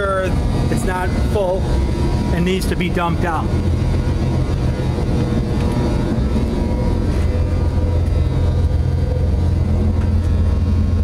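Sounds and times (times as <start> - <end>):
factory machinery rumble: 0.0 - 11.0
faint humming tones: 0.0 - 11.0.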